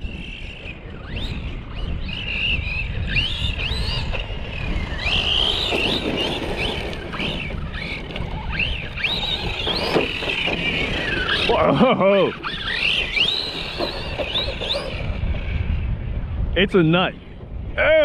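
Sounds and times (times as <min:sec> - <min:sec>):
electric motor whining: 0:00.0 - 0:16.1.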